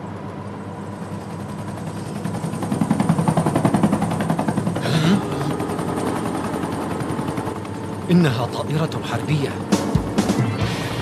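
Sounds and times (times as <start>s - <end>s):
aircraft rapid beating: 0.0s - 11.0s.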